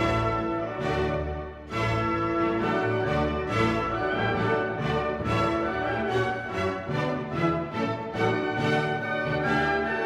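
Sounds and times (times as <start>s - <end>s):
orchestral music strings and brass: 0.0s - 10.0s.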